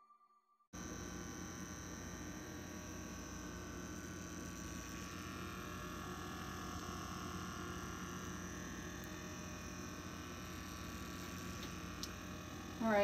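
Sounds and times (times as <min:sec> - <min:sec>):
small motor humming: 0:00.8 - 0:13.0.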